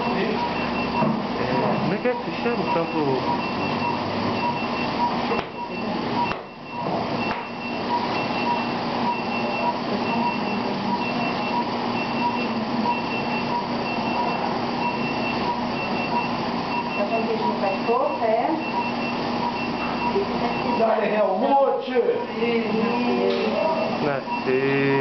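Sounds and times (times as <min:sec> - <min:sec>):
patient monitor beeps: 0:00.0 - 0:25.0.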